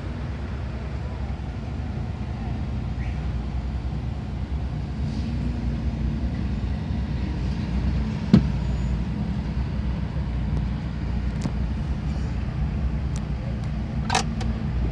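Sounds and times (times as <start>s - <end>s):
vehicle engines rumbling: 0.0s - 14.9s.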